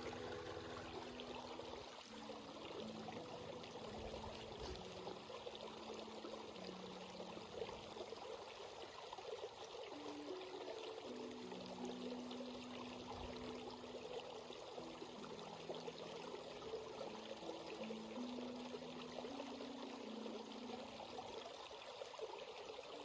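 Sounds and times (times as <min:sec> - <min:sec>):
stream flowing over rocks: 0:00.0 - 0:23.0.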